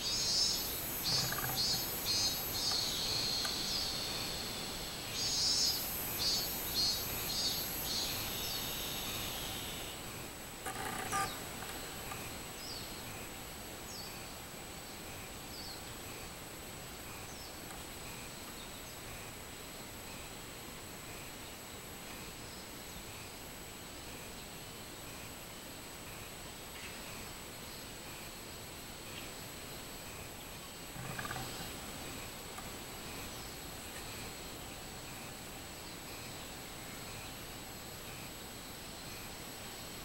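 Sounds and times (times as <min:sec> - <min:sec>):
cicadas singing pulsed song: 0:00.0 - 0:40.0.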